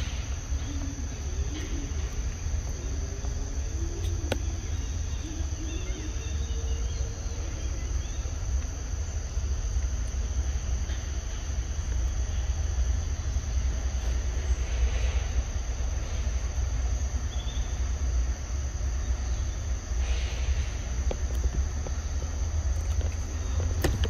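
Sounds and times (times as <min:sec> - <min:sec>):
insects droning: 0:00.0 - 0:24.0
low unsteady rumble: 0:00.0 - 0:24.0.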